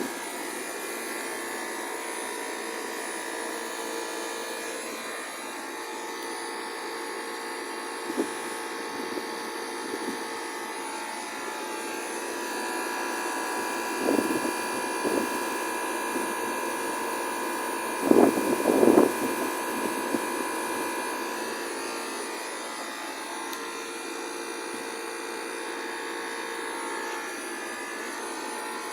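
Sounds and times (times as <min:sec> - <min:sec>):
air conditioner electric whine: 0:00.0 - 0:28.9.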